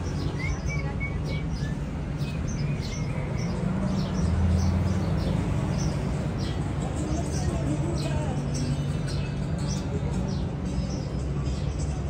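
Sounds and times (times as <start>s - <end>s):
birds chirping: 0.0s - 12.0s
low traffic rumble: 0.0s - 12.0s.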